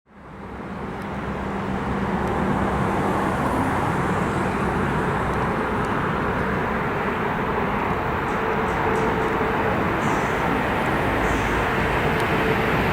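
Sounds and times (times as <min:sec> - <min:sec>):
passenger train running: 0:00.1 - 0:12.9.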